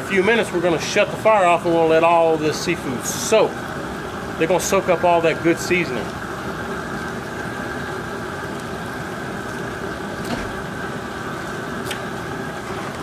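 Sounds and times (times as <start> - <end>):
propane burner rushing: 0.0 - 13.0.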